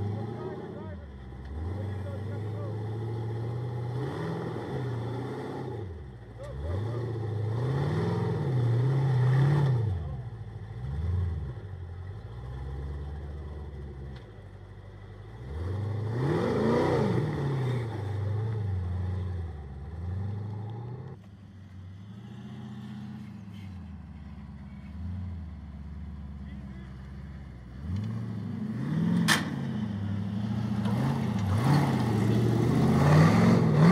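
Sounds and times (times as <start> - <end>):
buggy engine revving: 0.0 - 33.9
engine running steadily: 0.0 - 33.9.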